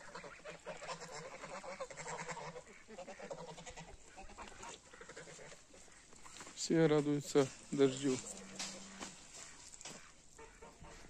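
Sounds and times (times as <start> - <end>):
poultry calling faintly: 0.0 - 11.0.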